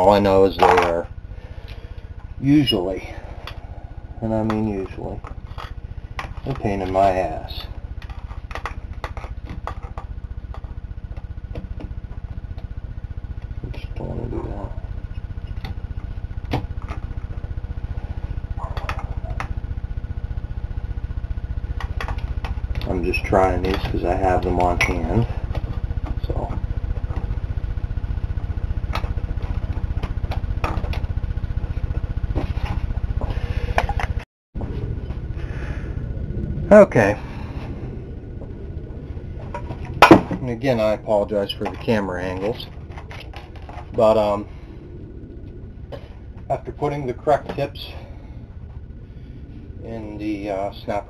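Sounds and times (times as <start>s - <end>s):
low pulsing hum: 0.0s - 51.0s.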